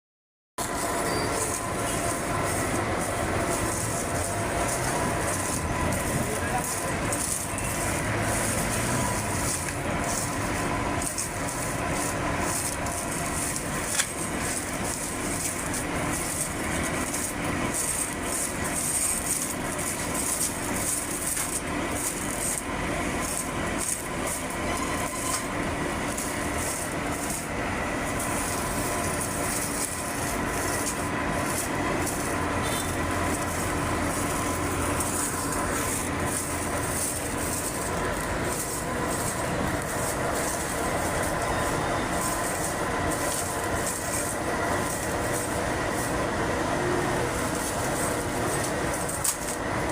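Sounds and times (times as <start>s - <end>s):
motorcycle engines running: 0.6s - 49.9s.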